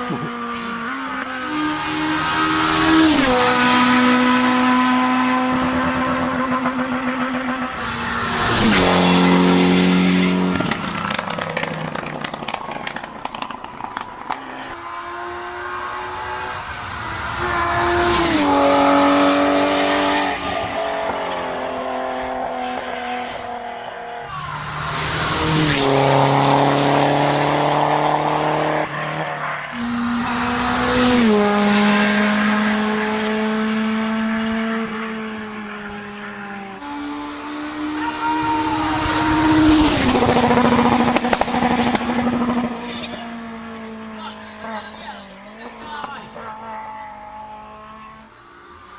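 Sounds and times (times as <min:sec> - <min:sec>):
rally car engines revving past: 0:00.0 - 0:48.9.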